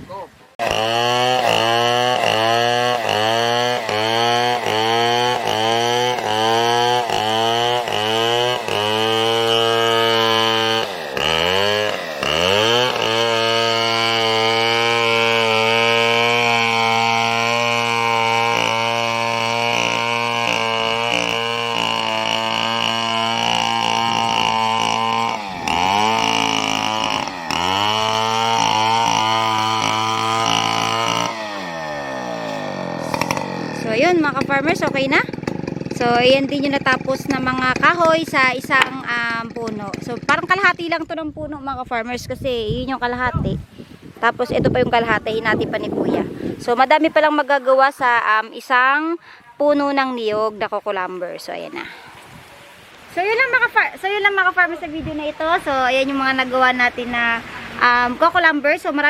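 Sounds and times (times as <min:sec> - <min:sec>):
chainsaw cutting wood: 0:00.6 - 0:43.9, 0:44.5 - 0:50.5.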